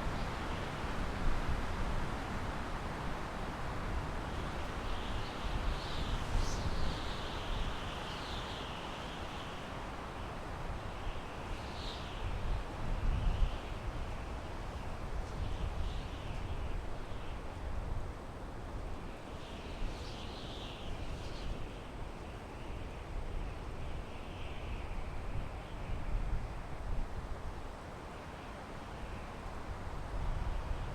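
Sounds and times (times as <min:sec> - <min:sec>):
wind through pine trees: 0:00.0 - 0:30.9.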